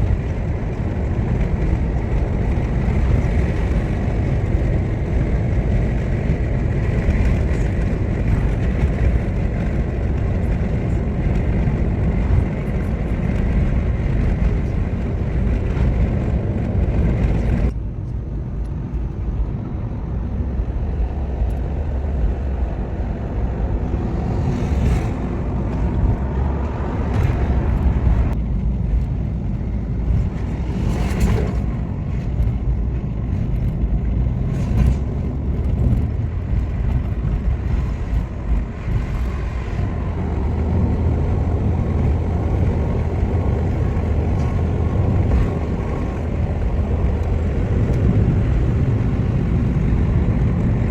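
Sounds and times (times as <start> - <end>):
car engine: 0.0 - 50.9
road noise: 0.0 - 50.9.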